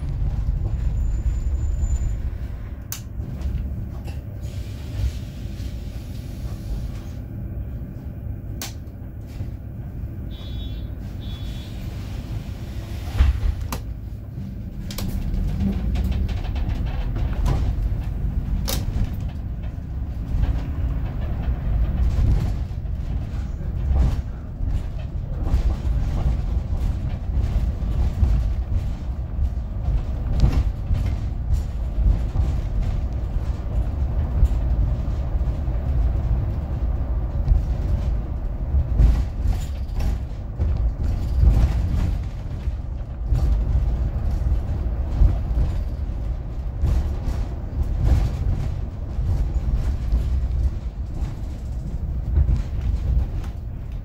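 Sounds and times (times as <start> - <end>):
bus body rattling: 0.0 - 54.0
bus engine rumble: 0.0 - 54.0.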